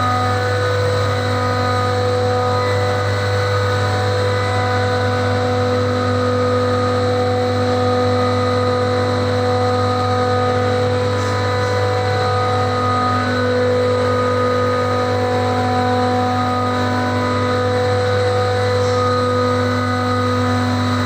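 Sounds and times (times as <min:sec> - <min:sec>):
chiller machinery humming: 0:00.0 - 0:21.0.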